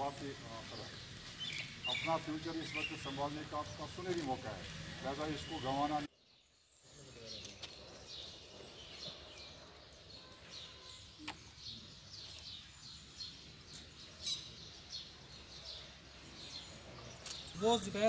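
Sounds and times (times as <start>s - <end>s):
outdoor background noise: 0.0s - 18.0s
small birds chirping: 0.0s - 18.0s.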